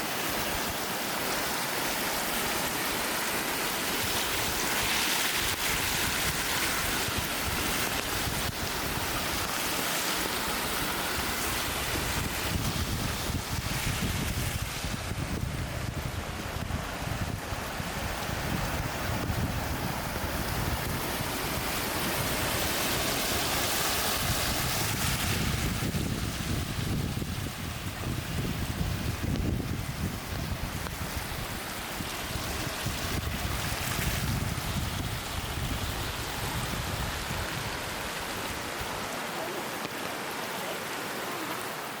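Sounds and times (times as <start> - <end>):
waterfall rushing: 0.0 - 42.0
wind rumbling on microphone: 2.9 - 40.3.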